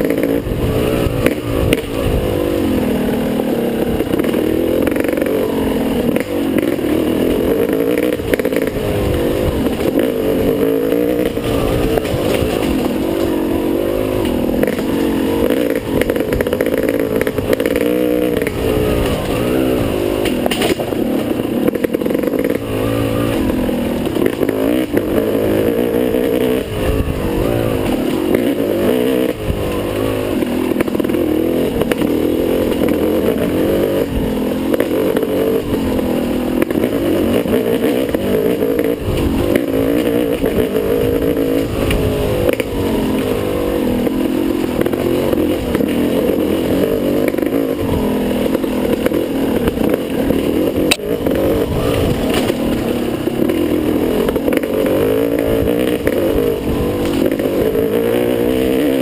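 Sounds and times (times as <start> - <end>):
bike clattering over rough ground: 0.0 - 59.0
dirt bike engine revving: 0.0 - 59.0.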